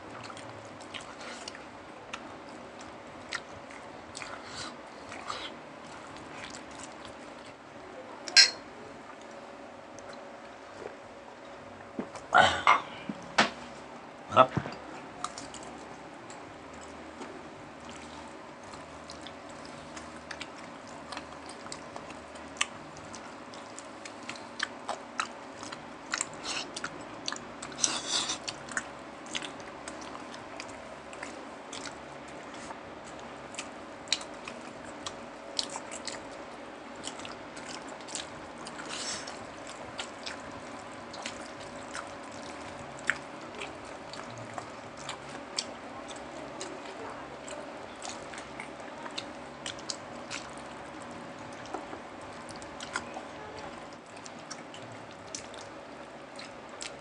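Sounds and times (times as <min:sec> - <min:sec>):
chewing and crunching food: 0:00.0 - 0:13.3, 0:14.7 - 0:57.0
faint steady hum: 0:00.0 - 0:57.0.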